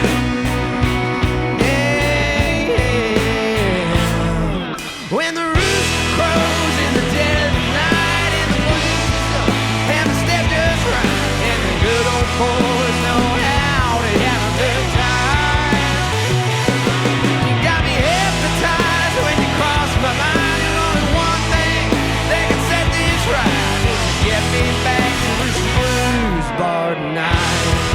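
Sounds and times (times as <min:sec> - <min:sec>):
blues-rock band playing: 0:00.0 - 0:27.9
electric guitar bending notes: 0:00.0 - 0:27.9.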